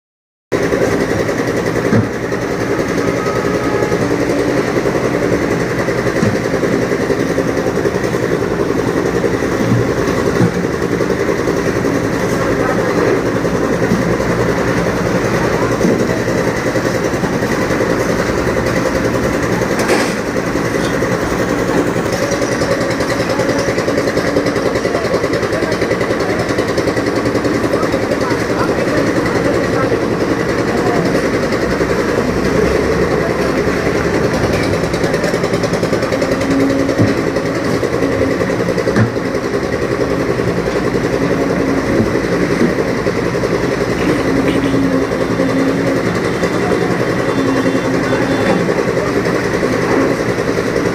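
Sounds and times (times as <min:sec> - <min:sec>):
engine running steadily: 0:00.5 - 0:50.9.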